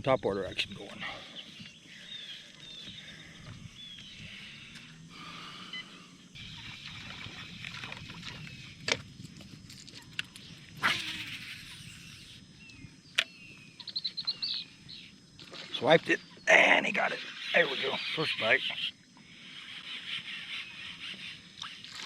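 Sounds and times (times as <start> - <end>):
birds chirping and whistling: 0.6 - 9.3, 9.9 - 22.0.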